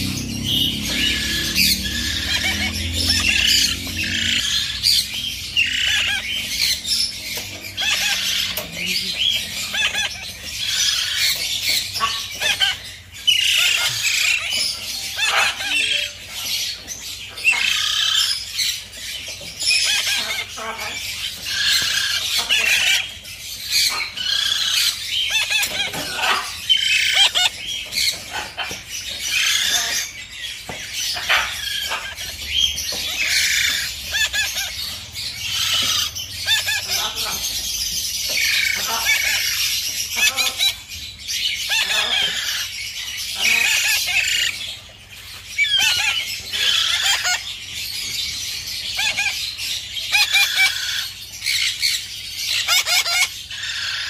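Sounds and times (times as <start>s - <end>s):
parrot chick begging calls: 0.0s - 18.9s, 19.6s - 30.2s, 31.1s - 40.8s, 41.6s - 42.7s, 43.4s - 44.6s, 45.6s - 47.5s, 50.0s - 54.0s.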